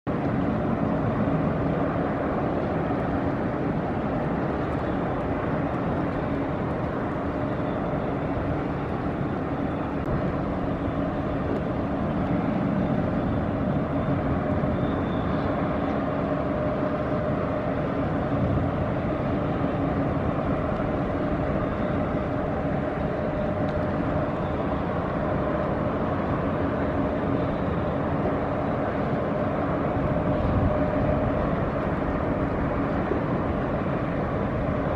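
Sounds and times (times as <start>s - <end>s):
ship diesel engine drone: 0.1s - 34.9s.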